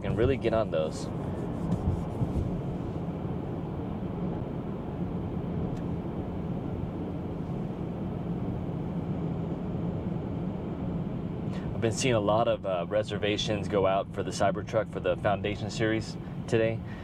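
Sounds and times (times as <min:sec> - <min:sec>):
road and tyre noise in car cabin: 0:00.0 - 0:17.0.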